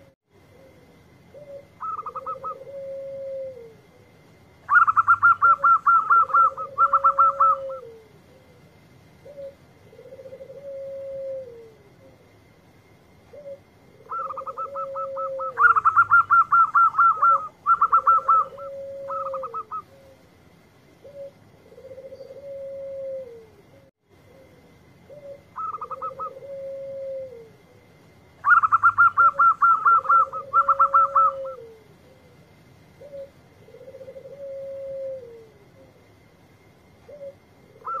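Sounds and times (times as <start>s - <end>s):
rapid trilled coo notes: 0.0s - 12.3s, 13.3s - 20.3s, 21.0s - 27.8s, 28.4s - 36.1s, 37.0s - 38.0s
dove low drawn-out coo: 0.0s - 38.0s.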